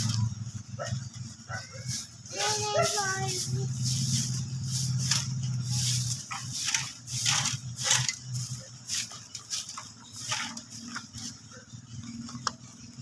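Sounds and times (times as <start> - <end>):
broom scraping over gravelly dirt: 0.0 - 11.6.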